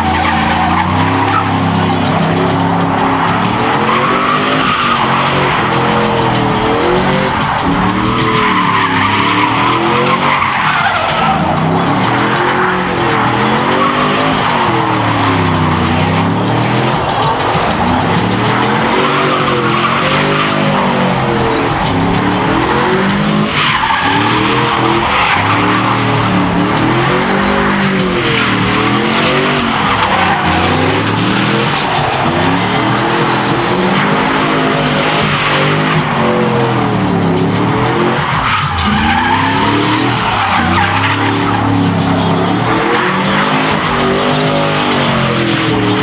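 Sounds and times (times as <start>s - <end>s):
truck engine revving: 0.0s - 46.0s
tyres hissing and squealing: 0.0s - 46.0s.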